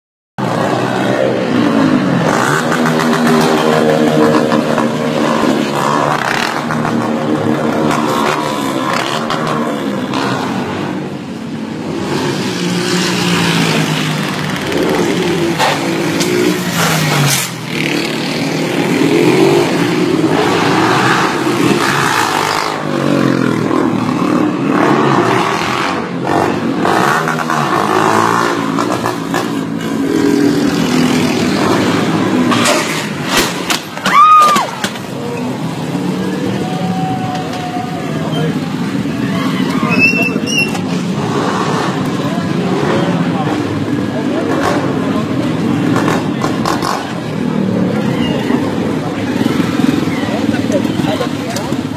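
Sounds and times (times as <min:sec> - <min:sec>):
motorcycle engines revving: 0:00.4 - 0:51.9.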